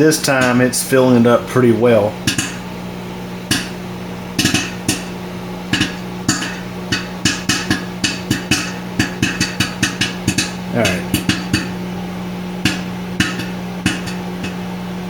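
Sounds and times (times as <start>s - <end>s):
microwave oven humming: 0.0s - 15.0s
popcorn popping: 0.0s - 15.0s.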